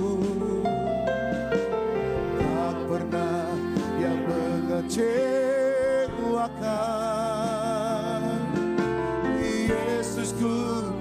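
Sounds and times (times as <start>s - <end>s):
instrumental backing: 0.0s - 11.0s.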